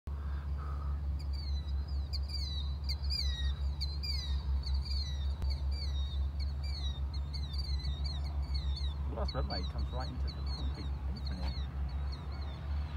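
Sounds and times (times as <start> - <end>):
birds chirping: 0.1 - 12.9
distant airplane engine drone: 0.1 - 12.9.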